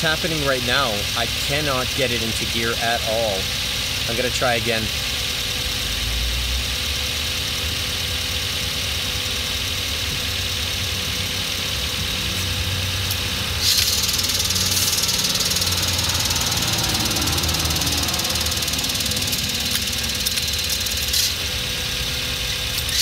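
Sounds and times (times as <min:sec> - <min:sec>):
car engine idling: 0:00.0 - 0:23.0
high-pitched clutch noise: 0:00.0 - 0:23.0.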